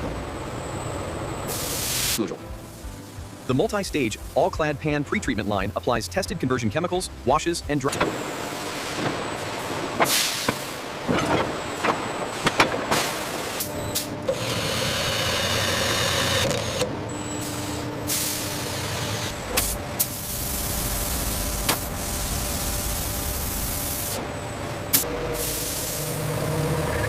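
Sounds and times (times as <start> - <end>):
factory machinery humming: 0.0 - 27.0.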